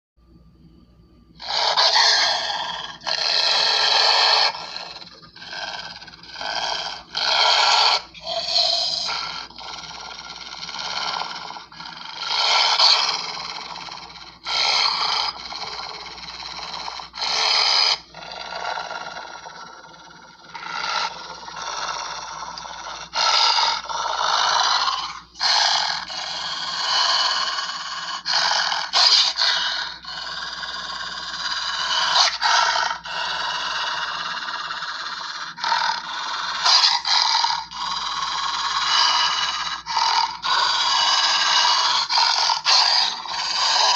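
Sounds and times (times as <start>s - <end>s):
raspy growls and snarls: 1.4s - 43.9s.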